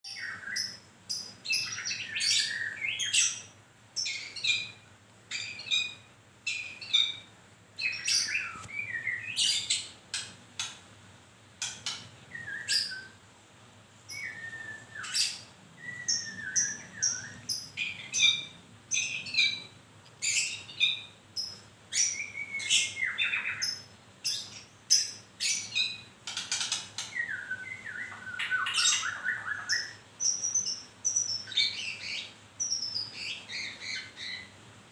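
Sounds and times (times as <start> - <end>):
songbird chirping and whistling: 0.0 - 10.0, 11.6 - 13.2, 14.1 - 34.6.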